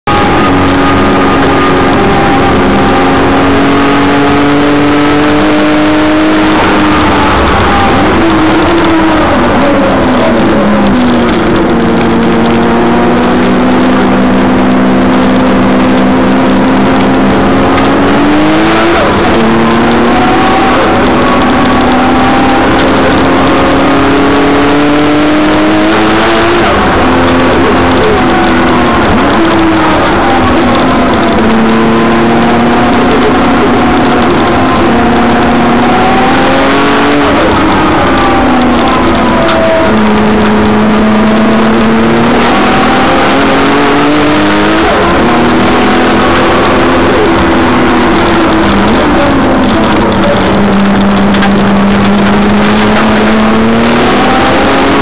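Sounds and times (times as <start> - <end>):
car engine accelerating in cabin: 0.0 - 55.0.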